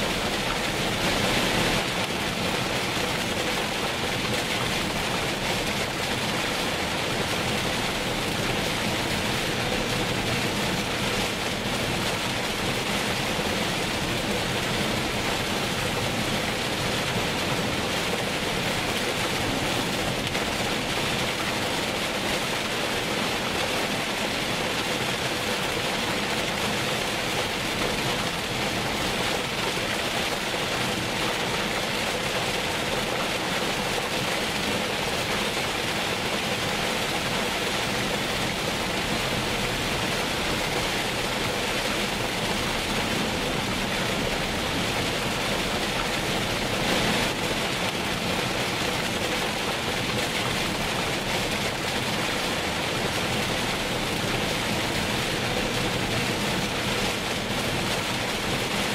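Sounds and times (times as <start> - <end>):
rain hissing on car windshield: 0.0 - 58.9.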